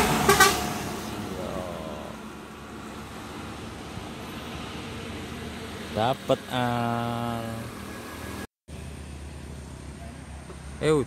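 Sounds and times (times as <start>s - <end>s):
motorbike passing: 0.0s - 10.1s
distant road traffic: 0.0s - 11.0s
light truck passing: 0.0s - 11.0s.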